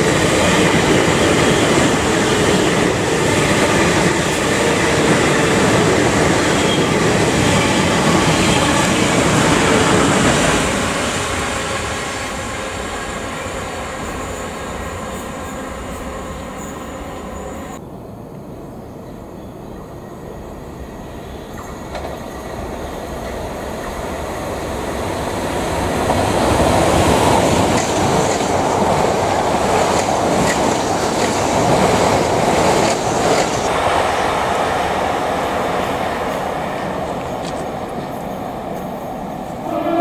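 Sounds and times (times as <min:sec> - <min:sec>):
train passing: 0:00.0 - 0:40.0
wheel and rail noise: 0:00.0 - 0:40.0.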